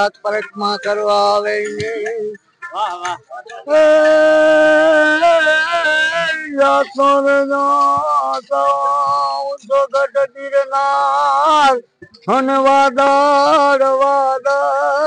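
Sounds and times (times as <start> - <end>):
elderly man singing: 0.0 - 15.0.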